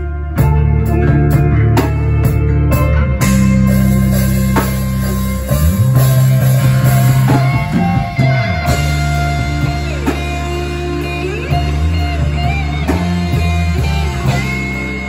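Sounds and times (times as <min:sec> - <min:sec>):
drum kit: 0:00.0 - 0:15.0
electric bass long low notes: 0:00.0 - 0:15.0
electric guitars: 0:00.0 - 0:15.0.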